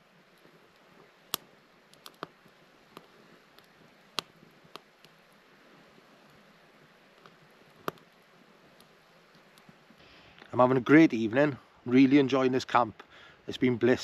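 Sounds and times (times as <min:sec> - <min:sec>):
faint hiss: 0:00.0 - 0:14.0
wood fire crackling and popping: 0:00.0 - 0:14.0.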